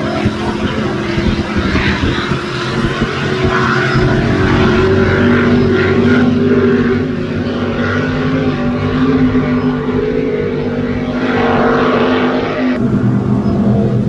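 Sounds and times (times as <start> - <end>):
powerboat engines droning: 0.0 - 14.0.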